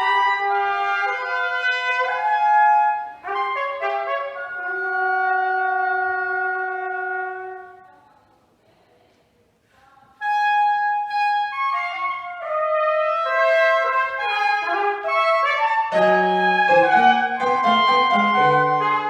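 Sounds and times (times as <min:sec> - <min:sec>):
clarinet: 0:00.0 - 0:07.9, 0:10.2 - 0:19.0
trumpet: 0:00.0 - 0:08.0, 0:10.2 - 0:19.0.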